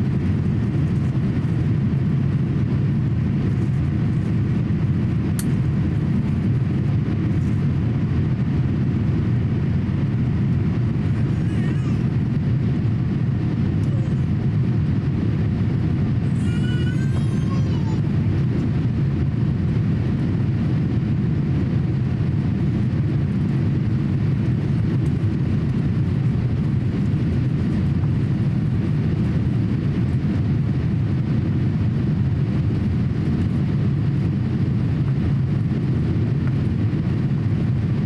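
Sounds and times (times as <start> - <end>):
airplane cabin engine rumble: 0.0 - 38.0.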